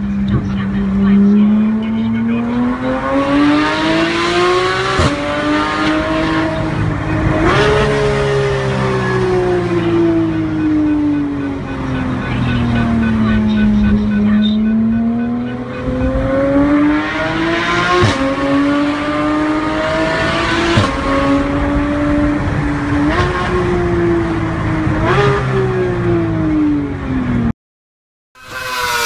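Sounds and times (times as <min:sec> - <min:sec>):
car engine accelerating and shifting: 0:00.0 - 0:27.5, 0:28.4 - 0:29.0.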